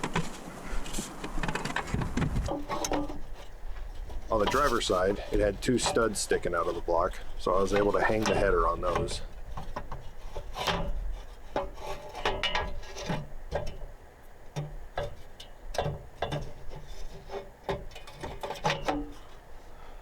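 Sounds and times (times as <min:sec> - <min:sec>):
metal knocks and scraping: 0:00.0 - 0:13.9, 0:14.5 - 0:19.5.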